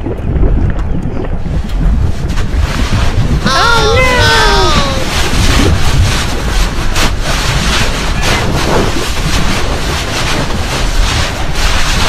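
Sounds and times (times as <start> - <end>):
loud steady rushing noise: 1.9 - 12.0.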